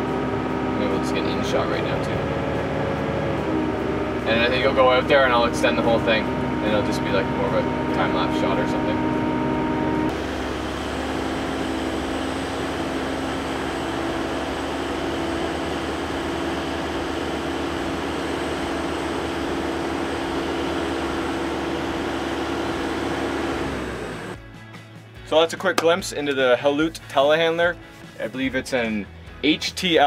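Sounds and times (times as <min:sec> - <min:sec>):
telehandler engine running: 0:00.0 - 0:24.4.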